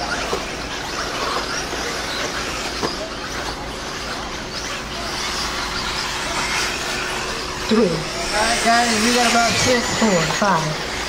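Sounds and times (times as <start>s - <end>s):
electric buggies hissing: 0.0s - 11.0s
high motor whines: 0.0s - 11.0s.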